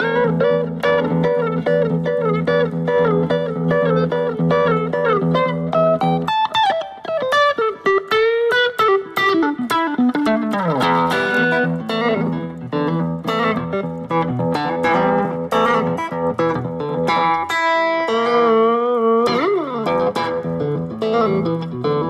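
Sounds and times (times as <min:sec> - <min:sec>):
plucked guitar notes: 0:00.0 - 0:22.0.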